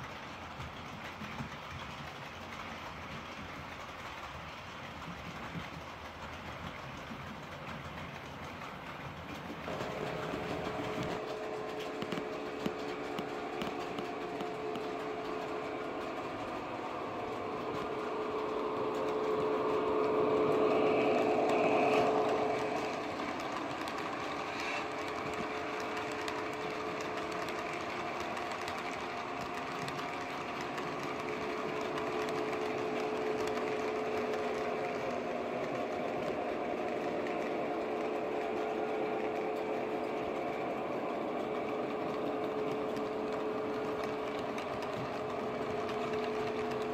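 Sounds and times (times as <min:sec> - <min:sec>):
model train motors whirring: 0:00.0 - 0:46.9
wheels running on rails: 0:00.0 - 0:46.9.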